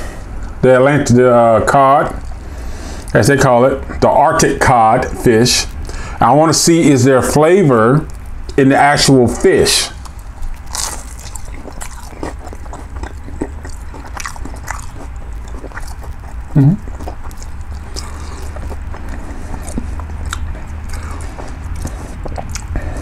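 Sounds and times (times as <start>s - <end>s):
person chewing crispy food: 1.9s - 23.0s.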